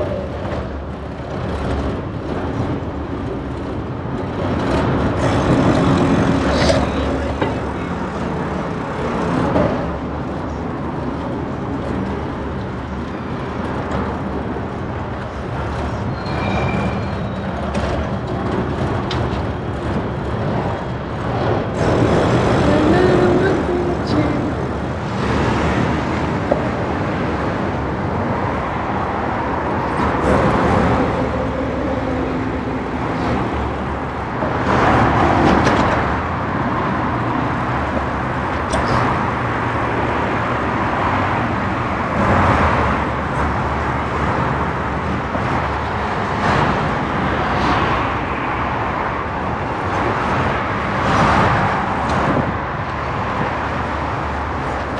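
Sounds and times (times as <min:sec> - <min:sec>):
steady rumble of traffic: 0:00.0 - 0:54.9
vehicles passing close: 0:00.0 - 0:54.9.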